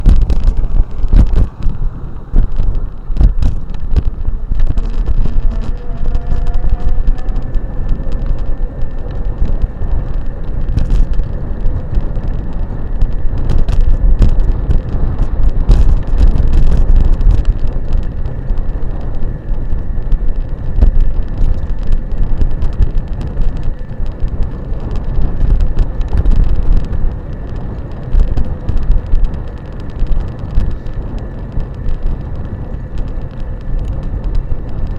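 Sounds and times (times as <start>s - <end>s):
bike knocking and rattling: 0.0s - 34.9s
wind buffeting microphone: 0.0s - 34.9s.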